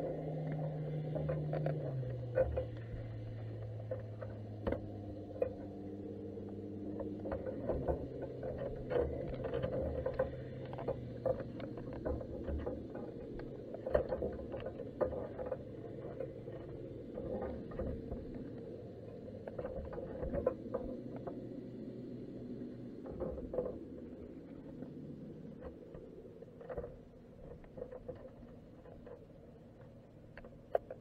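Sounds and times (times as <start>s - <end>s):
faint underwater clicks and crackles: 0.0s - 31.0s
low underwater hum: 0.0s - 31.0s.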